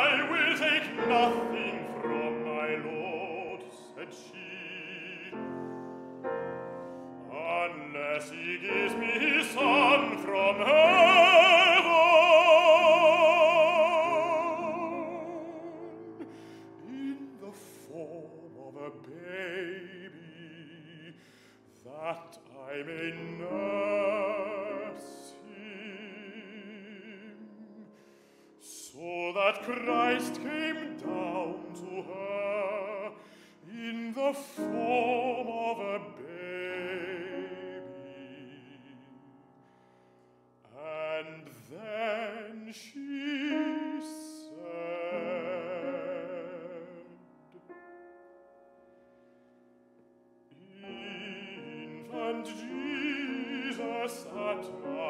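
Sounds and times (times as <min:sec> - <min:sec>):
baritone singing: 0:00.0 - 0:21.2, 0:21.8 - 0:28.0, 0:28.6 - 0:39.2, 0:40.7 - 0:47.2, 0:50.5 - 0:55.0
grand piano: 0:00.0 - 0:55.0.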